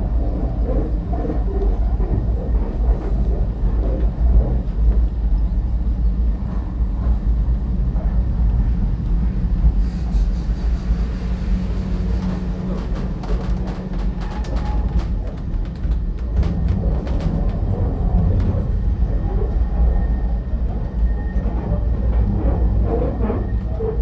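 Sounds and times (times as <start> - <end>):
tramcar rumbling on rails: 0.0 - 24.0.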